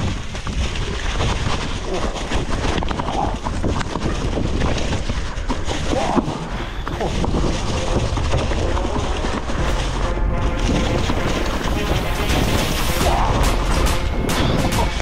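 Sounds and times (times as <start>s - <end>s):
bike rattling and clicking: 0.0s - 12.9s
bike tyres rolling over leaves: 0.0s - 15.0s
wind buffeting microphone: 0.0s - 15.0s.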